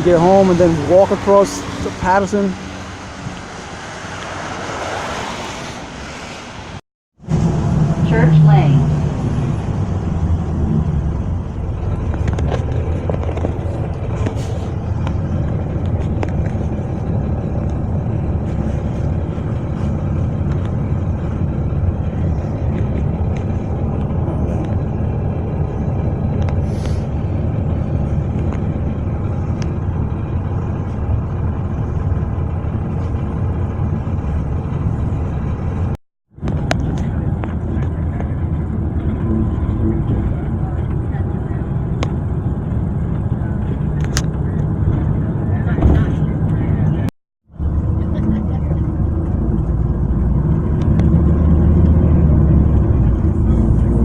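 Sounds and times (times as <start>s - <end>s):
bus engine rumble from inside: 0.0s - 54.0s.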